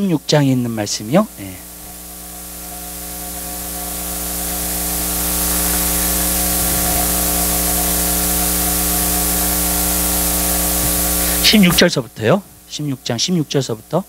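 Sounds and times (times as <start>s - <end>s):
low electrical hum: 0.0s - 14.0s
steady hiss: 0.0s - 14.0s.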